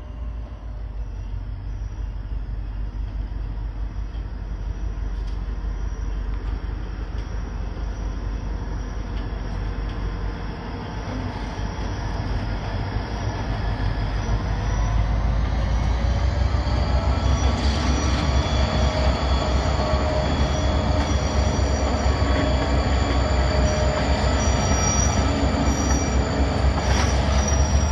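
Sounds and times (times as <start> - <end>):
diesel train rumbling: 0.0 - 27.9.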